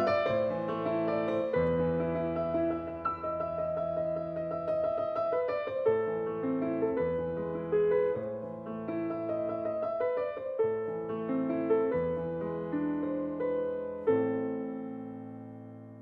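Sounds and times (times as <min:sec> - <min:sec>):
soft piano piece: 0:00.0 - 0:16.0.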